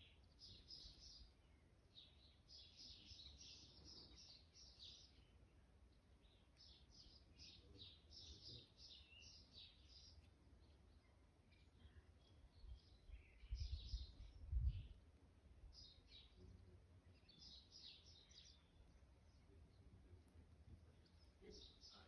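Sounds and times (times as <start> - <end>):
small songbirds chirping: 0.0 - 22.0.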